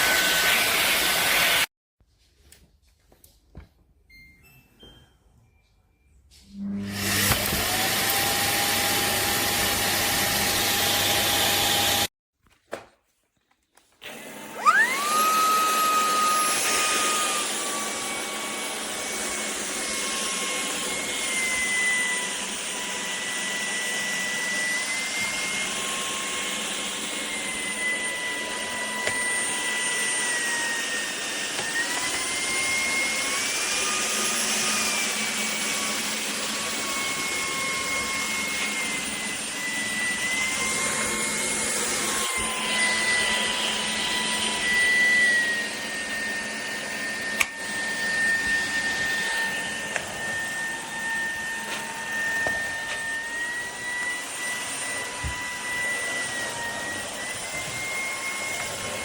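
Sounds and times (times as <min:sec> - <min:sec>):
vacuum cleaner motor running: 0:00.0 - 0:01.7, 0:06.5 - 0:12.1, 0:14.0 - 0:59.0.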